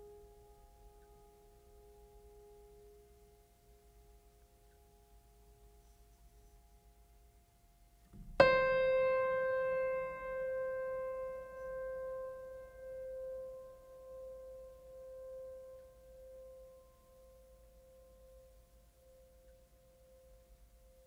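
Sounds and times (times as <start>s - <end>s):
faint lingering music tones: 0.0s - 21.0s.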